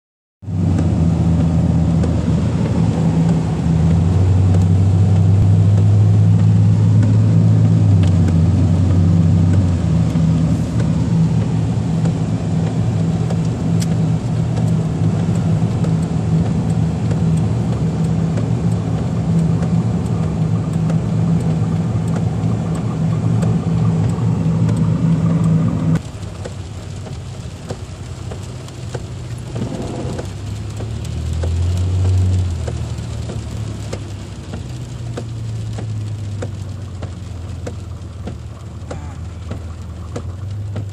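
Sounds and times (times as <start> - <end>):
car engine drone: 0.4 - 40.9
tyres on wet road: 0.4 - 40.9.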